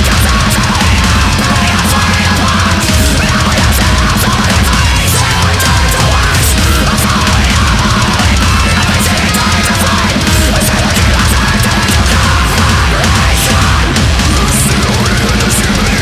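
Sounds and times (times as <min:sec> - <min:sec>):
death metal music: 0:00.0 - 0:16.0.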